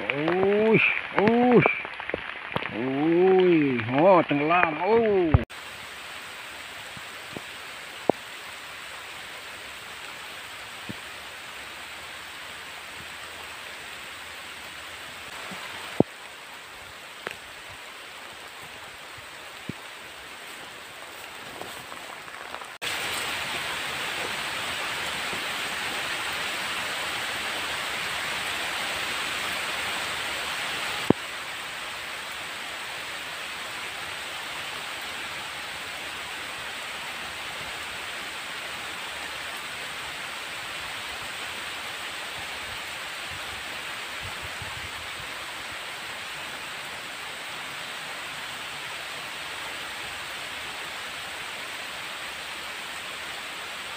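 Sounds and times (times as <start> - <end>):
heavy rain on water and grass: 0.0 - 53.9.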